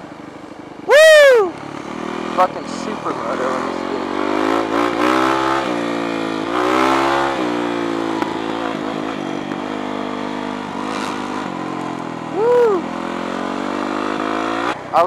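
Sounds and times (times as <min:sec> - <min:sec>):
dirt bike engine revving: 0:01.4 - 0:14.8.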